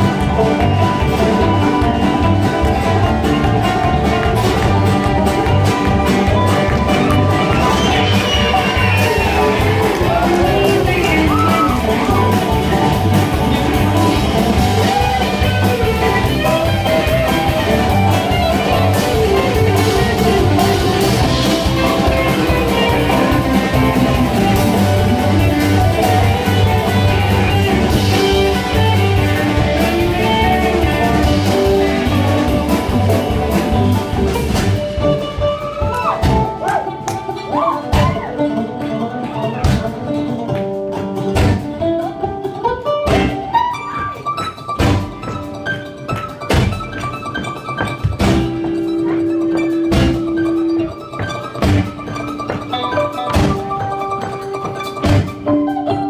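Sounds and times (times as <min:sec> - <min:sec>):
acoustic and electric guitars: 0:00.0 - 0:56.0
banjo: 0:00.0 - 0:56.0
drums: 0:00.0 - 0:56.0
mandolin: 0:00.0 - 0:56.0
upright bass: 0:00.0 - 0:56.0.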